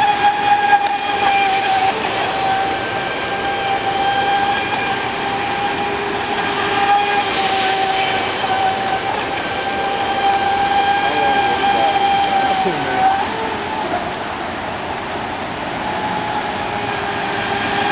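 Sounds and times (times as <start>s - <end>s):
electric motor whining: 0.0s - 17.9s
rushing hiss: 0.0s - 17.9s.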